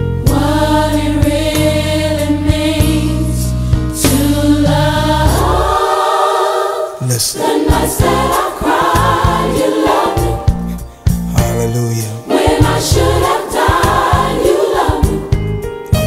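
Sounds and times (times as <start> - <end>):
instrumental backing with bass: 0.0 - 6.2, 7.0 - 16.0
gospel choir singing: 0.0 - 15.7.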